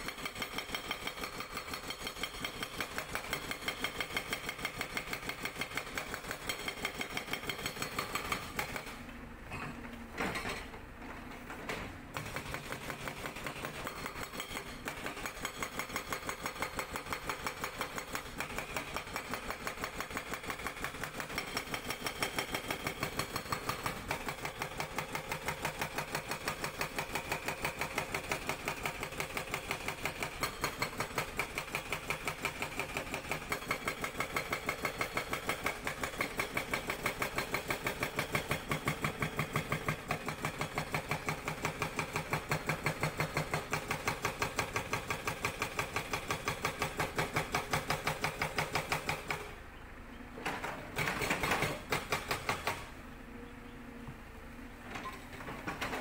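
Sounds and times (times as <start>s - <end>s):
hydraulic breaker hammering rock: 0.0s - 10.8s, 12.1s - 49.5s, 50.4s - 53.0s.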